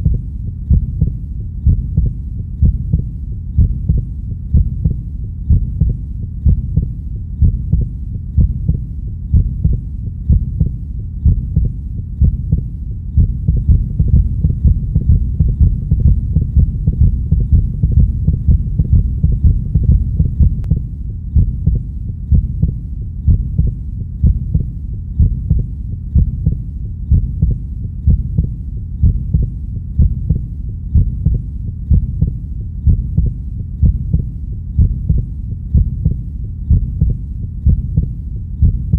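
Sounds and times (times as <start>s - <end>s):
heartbeat thumps: 0.0s - 38.9s
low rumble: 0.0s - 38.9s.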